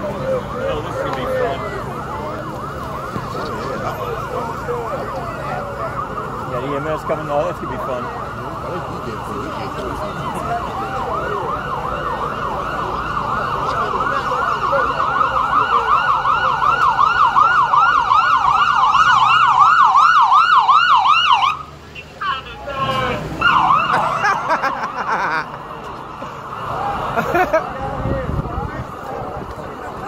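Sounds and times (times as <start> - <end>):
police siren yelping: 0.0 - 30.0.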